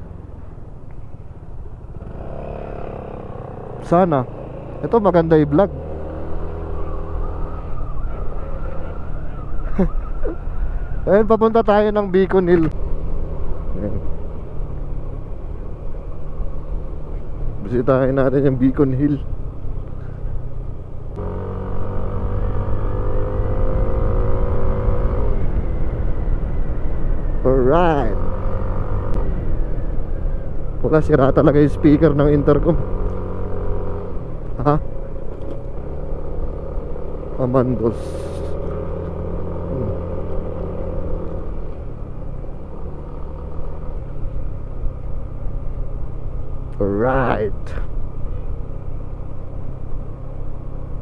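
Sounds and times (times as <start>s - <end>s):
wind and road noise: 0.0s - 51.0s.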